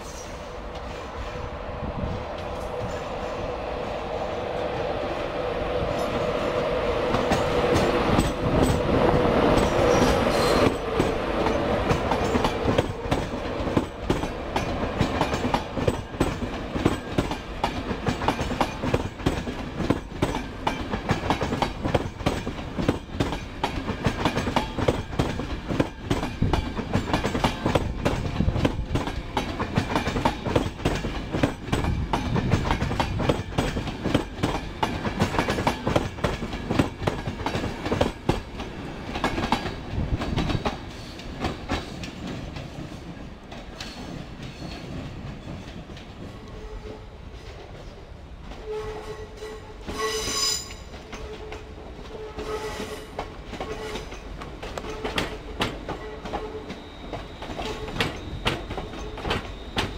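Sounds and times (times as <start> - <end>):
electric locomotive drone: 0.0 - 59.9.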